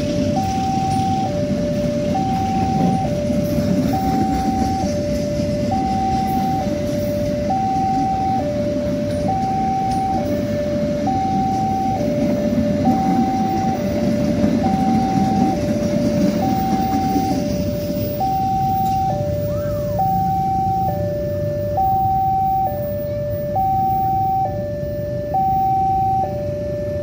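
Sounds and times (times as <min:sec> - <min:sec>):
train coaches rumbling on rails: 0:00.0 - 0:25.7
two-tone level-crossing alarm: 0:00.0 - 0:27.0.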